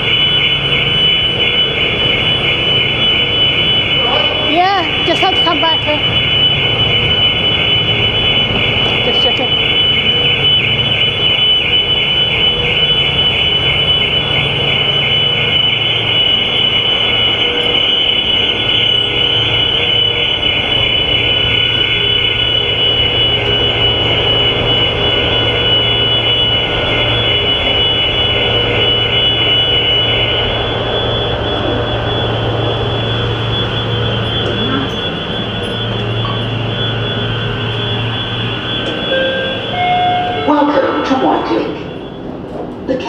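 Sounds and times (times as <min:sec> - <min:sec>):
car alarms high pulsing tone: 0:00.0 - 0:43.0
steady low hum: 0:00.0 - 0:43.0.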